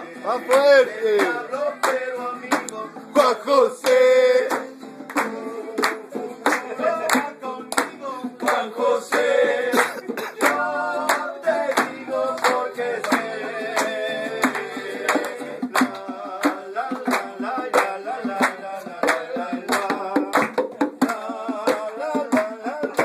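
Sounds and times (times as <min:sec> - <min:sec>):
acoustic guitar strumming: 0:00.0 - 0:23.0
man singing: 0:00.0 - 0:23.0
bongos: 0:00.5 - 0:23.0.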